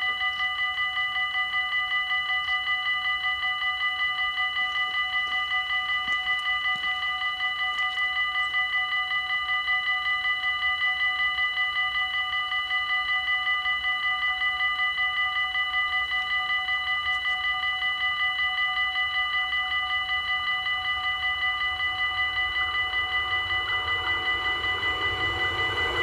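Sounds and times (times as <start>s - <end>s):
level crossing bells ringing: 0.0s - 26.0s.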